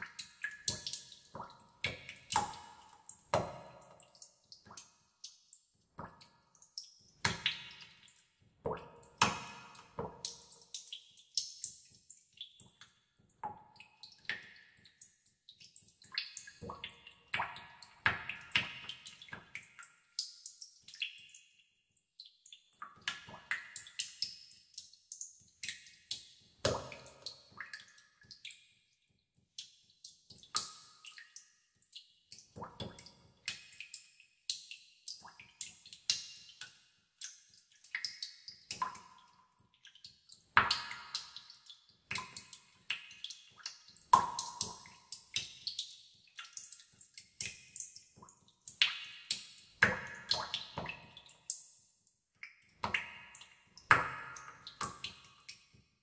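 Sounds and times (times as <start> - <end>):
water drops plinking in cave: 0.0 - 28.8, 29.4 - 51.8, 52.4 - 55.8.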